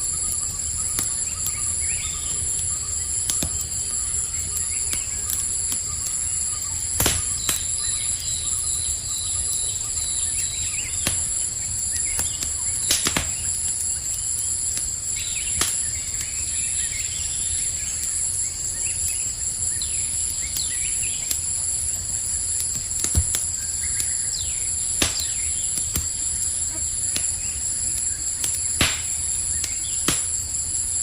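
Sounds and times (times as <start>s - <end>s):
campfire crackling and popping: 0.0s - 31.0s
night insects chirring: 0.0s - 31.0s.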